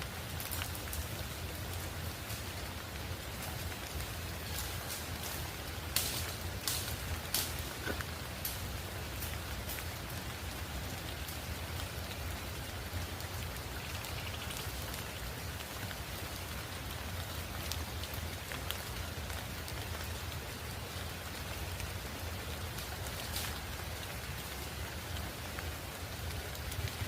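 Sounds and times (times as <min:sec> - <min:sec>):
raindrops hitting close by: 0:00.0 - 0:27.0
steady rain falling: 0:00.0 - 0:27.0.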